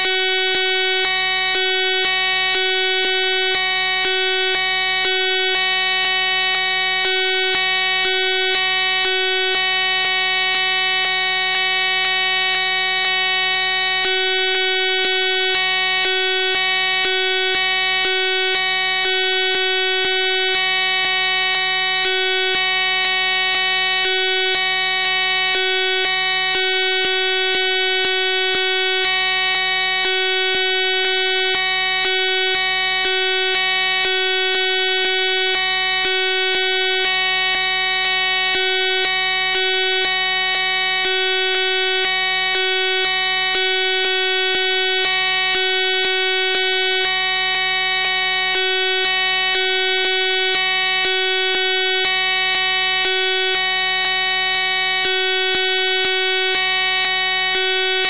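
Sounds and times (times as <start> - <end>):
harsh electronic buzz: 0.0 - 58.0.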